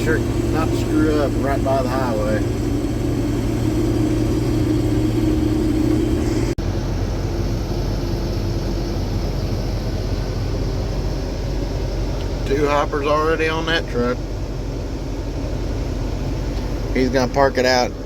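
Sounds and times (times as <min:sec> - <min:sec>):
combine engine running: 0:00.0 - 0:18.0.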